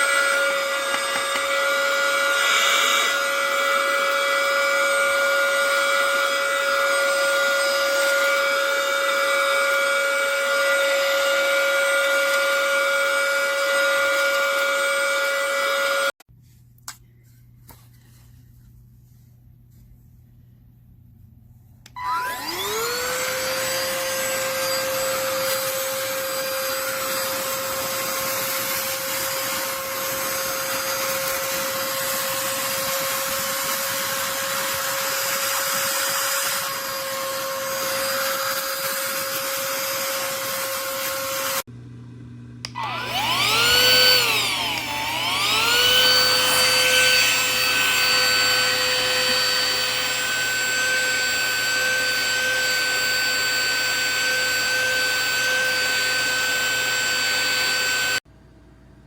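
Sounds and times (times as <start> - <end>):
handheld vacuum motor whine: 0.0 - 16.2, 21.9 - 41.7, 42.6 - 58.2.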